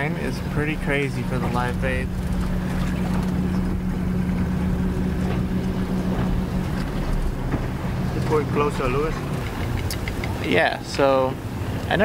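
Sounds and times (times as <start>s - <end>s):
motorboat engine humming: 0.0s - 12.0s
water: 0.0s - 12.0s.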